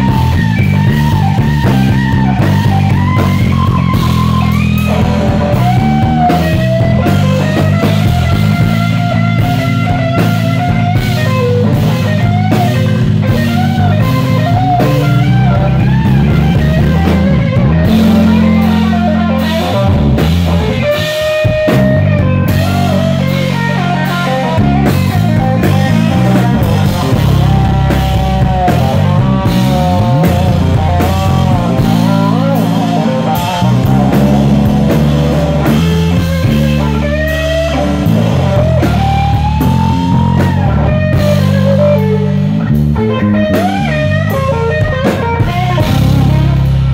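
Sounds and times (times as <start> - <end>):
bass and drums: 0.0 - 46.9
electric guitar solo: 0.0 - 46.9.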